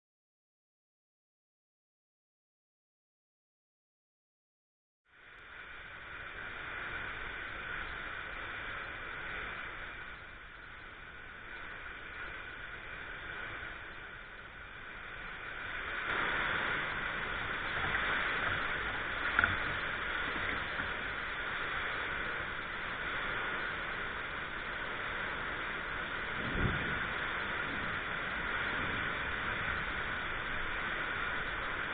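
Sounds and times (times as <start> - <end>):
heavy rain and hail: 5.4 - 31.9.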